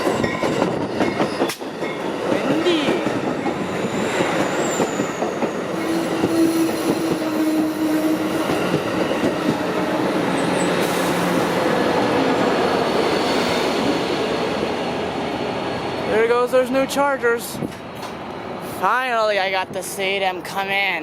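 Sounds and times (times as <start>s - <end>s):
train wheels rumbling on rails: 0.0s - 20.8s.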